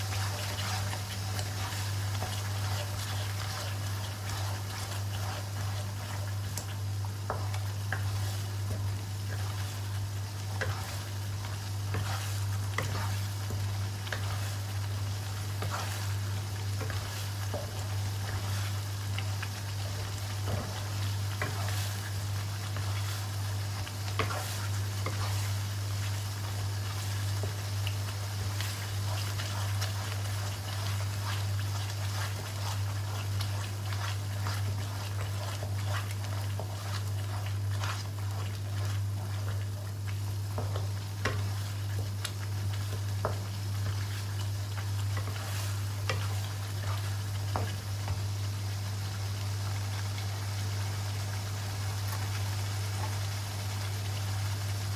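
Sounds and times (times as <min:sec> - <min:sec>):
wooden spatula stirring: 0:00.0 - 0:48.3
steady low hum: 0:00.0 - 0:48.4
chili paste sizzling in oil: 0:00.0 - 0:54.9.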